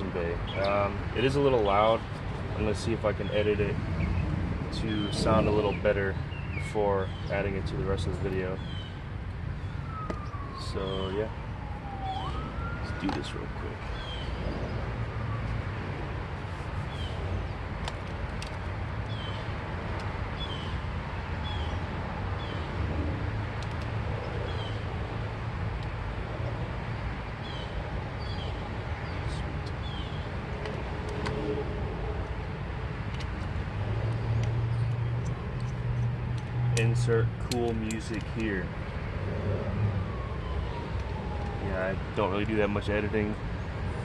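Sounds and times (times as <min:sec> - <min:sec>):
low vehicle rumble: 0:00.0 - 0:44.0.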